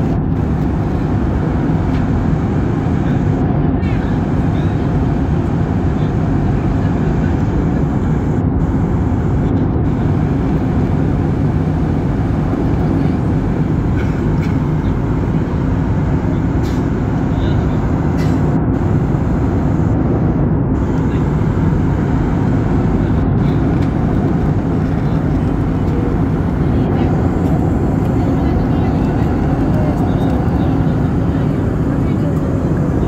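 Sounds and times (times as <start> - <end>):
jet engine roar in cabin: 0.0 - 33.0.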